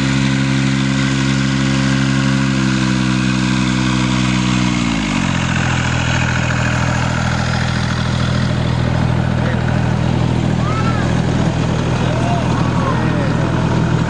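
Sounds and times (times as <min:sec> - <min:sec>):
locomotive engine running: 0:00.0 - 0:14.0.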